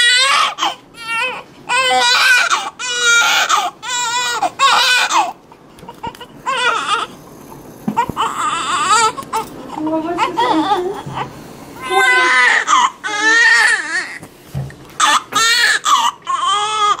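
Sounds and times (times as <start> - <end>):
newborn baby crying: 0.0 - 7.2, 7.9 - 14.2, 15.0 - 17.0.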